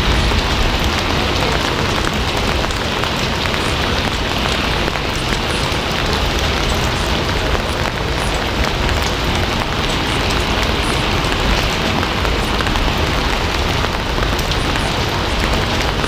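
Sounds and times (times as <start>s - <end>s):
heavy rainfall: 0.0s - 16.0s.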